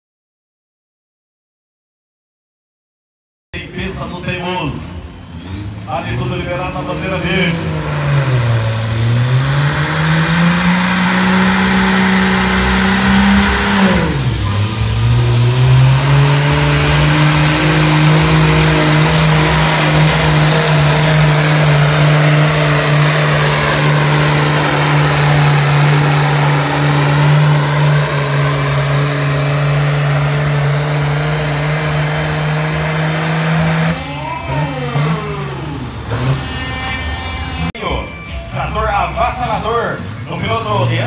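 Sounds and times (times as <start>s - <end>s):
tractor diesel engine full throttle: 3.6s - 37.8s.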